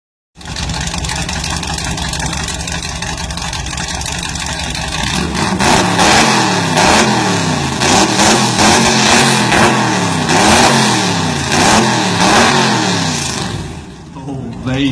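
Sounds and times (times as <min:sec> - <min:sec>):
car engine idling and revving: 0:00.4 - 0:14.9.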